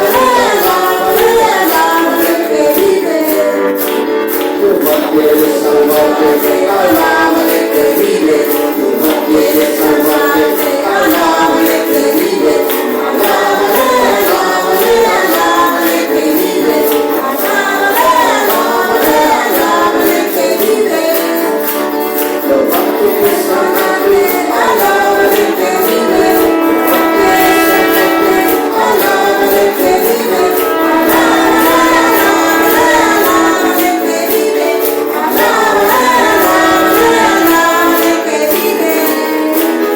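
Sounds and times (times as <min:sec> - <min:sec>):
high percussion beat: 0:00.0 - 0:39.9
instrumental accompaniment: 0:00.0 - 0:39.9
voices singing praise song: 0:00.0 - 0:39.9.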